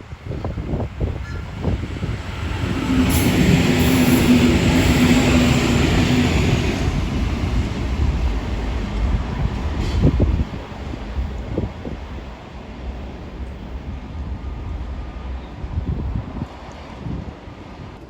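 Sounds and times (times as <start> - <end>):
wheel and rail noise: 0.0 - 18.0.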